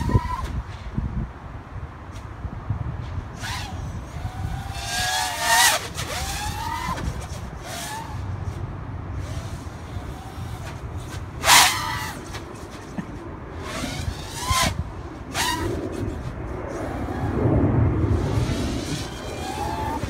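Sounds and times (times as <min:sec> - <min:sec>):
quadcopter motors whining: 0:00.0 - 0:00.7, 0:03.3 - 0:20.0.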